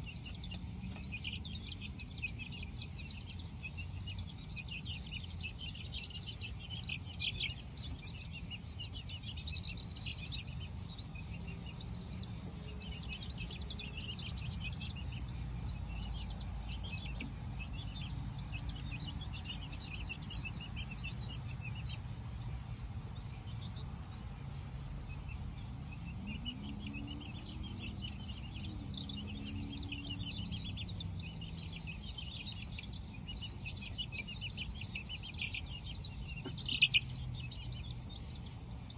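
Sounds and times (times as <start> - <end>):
chicks peeping: 0.0 - 38.9
crickets trilling: 0.0 - 38.9.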